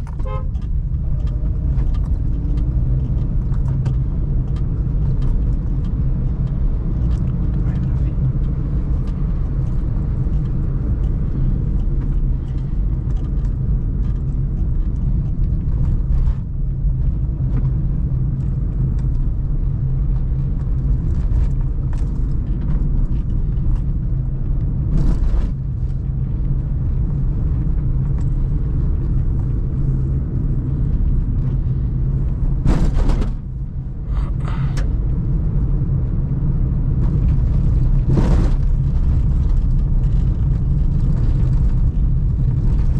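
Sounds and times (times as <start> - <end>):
car engine and road rumble: 0.0 - 42.9
passing traffic noises: 0.0 - 42.9.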